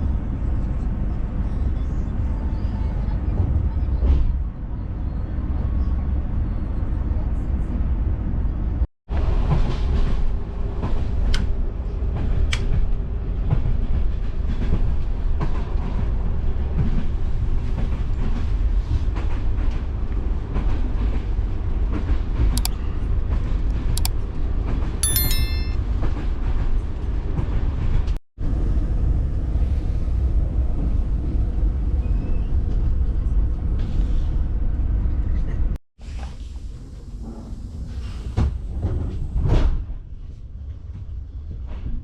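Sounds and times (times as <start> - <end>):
train carriage rumbling on track: 0.0 - 25.0, 26.1 - 42.0.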